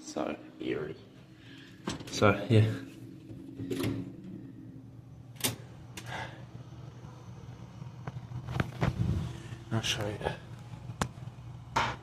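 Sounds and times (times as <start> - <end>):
low hallway hum: 0.0 - 12.0.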